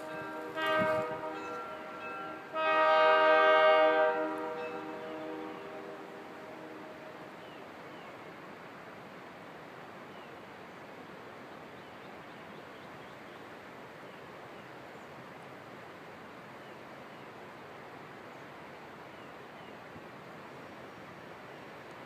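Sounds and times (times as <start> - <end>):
outdoor rustling hiss: 0.0 - 22.0.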